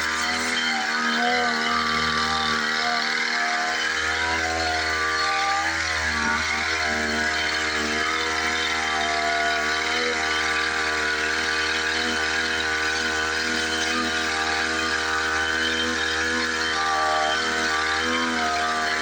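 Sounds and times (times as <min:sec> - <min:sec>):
sprayer engine running: 0:00.0 - 0:19.0.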